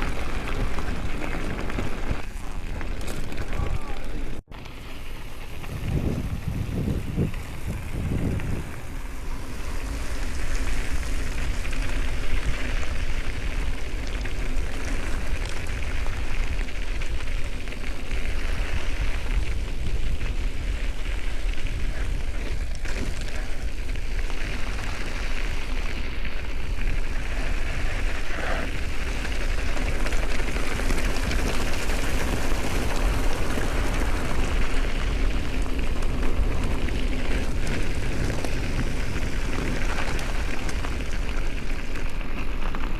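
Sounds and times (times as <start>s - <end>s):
bike tyre trail noise: 0.0s - 42.9s
wind on microphone: 0.0s - 42.9s.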